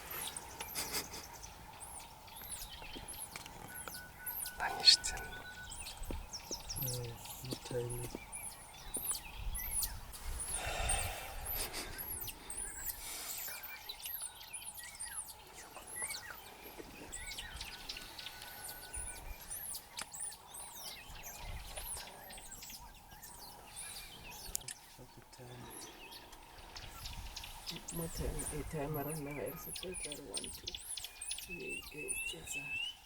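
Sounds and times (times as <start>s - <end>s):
many birds chirping: 0.0s - 33.0s.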